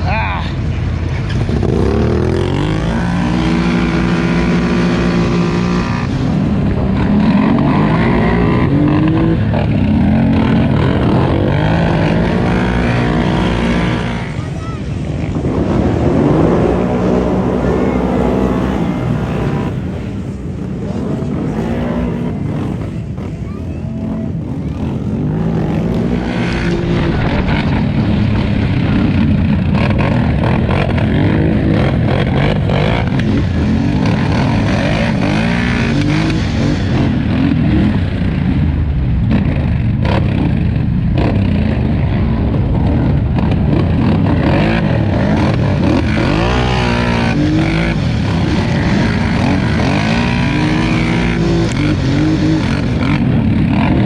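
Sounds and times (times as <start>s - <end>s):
engine revving: 0.0s - 54.0s
track noise: 0.0s - 54.0s
wind noise: 0.0s - 54.0s.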